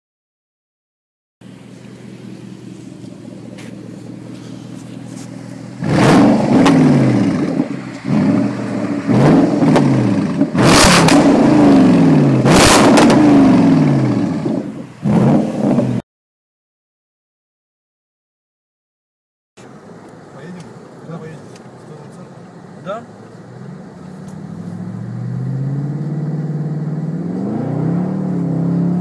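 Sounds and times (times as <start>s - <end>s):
car engine idling and revving: 1.4s - 16.0s, 19.6s - 29.0s.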